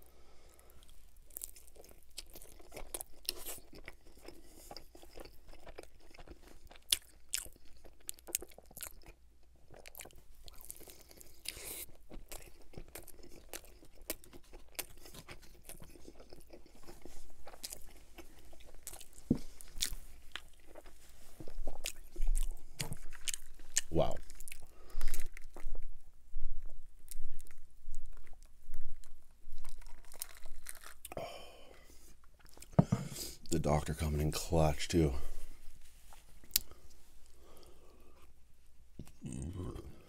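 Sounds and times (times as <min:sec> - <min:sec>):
person crunching and chewing food: 0:00.5 - 0:40.0.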